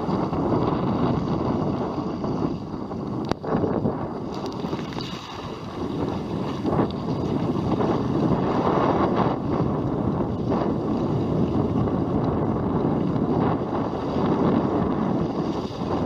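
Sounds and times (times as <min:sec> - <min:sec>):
rushing water: 0:00.0 - 0:16.0
wind buffeting microphone: 0:00.0 - 0:16.0.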